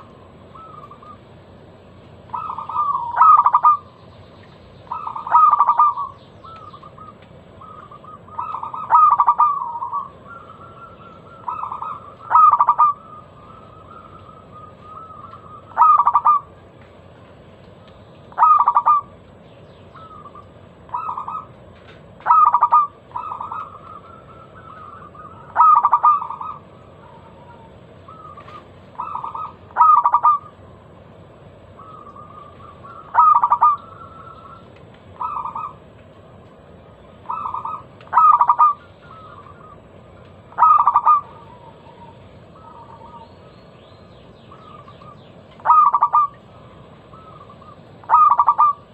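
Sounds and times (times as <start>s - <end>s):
dove cooing: 0.0s - 1.5s, 2.2s - 4.0s, 4.9s - 17.4s, 18.3s - 19.2s, 19.9s - 30.7s, 31.6s - 35.9s, 37.1s - 43.5s, 44.5s - 48.9s.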